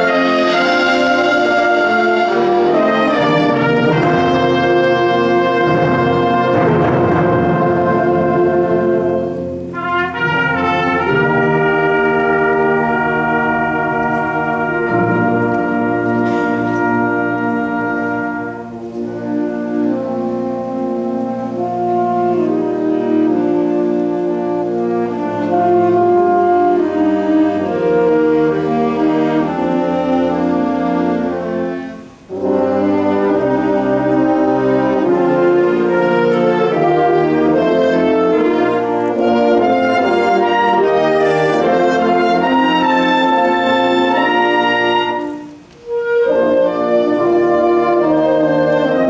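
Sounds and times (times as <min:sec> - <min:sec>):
ensemble with brass chords: 0:00.0 - 0:49.0.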